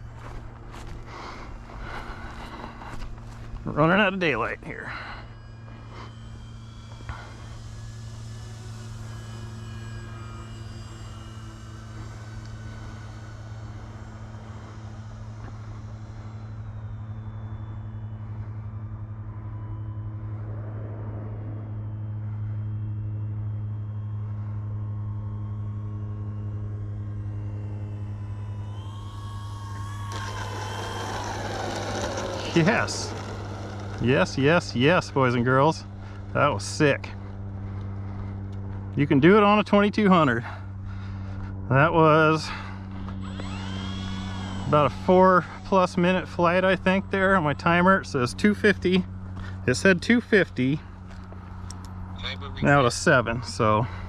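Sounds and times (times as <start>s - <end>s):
model airplane motors droning: 0.0s - 54.0s.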